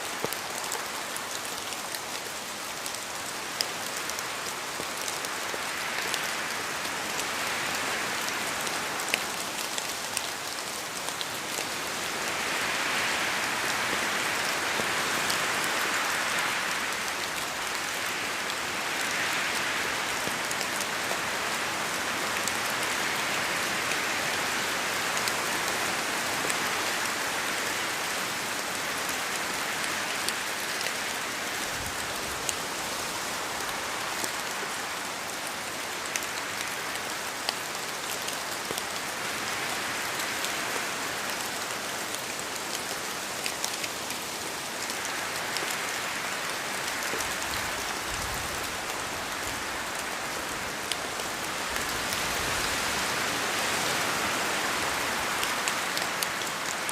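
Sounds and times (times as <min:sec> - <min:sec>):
rain pattering on leaves: 0:00.0 - 0:56.9.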